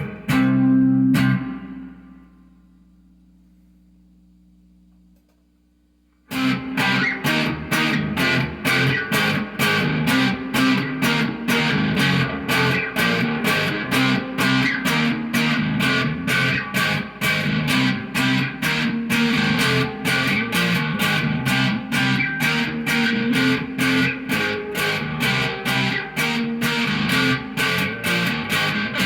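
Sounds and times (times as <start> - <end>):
electric guitar strummed chords: 0.0 - 2.7, 6.3 - 29.0.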